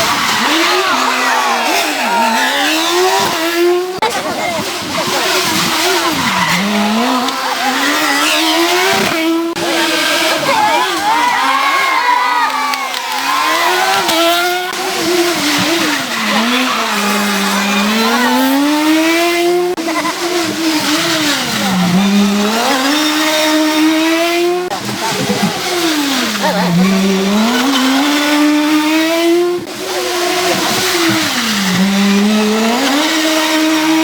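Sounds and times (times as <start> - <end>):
rally car engines accelerating: 0.0 - 34.0.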